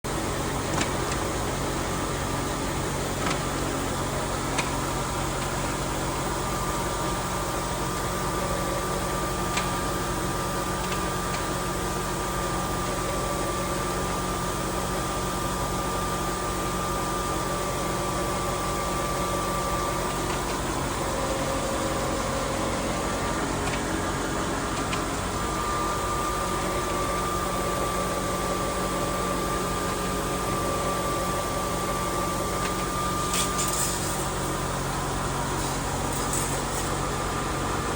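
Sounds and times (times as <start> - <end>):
machinery hum with high whine: 0.1 - 37.9.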